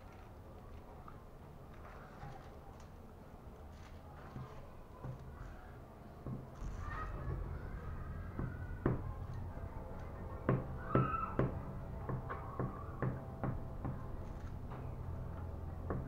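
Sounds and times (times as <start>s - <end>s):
low steady hum: 2.9s - 16.0s.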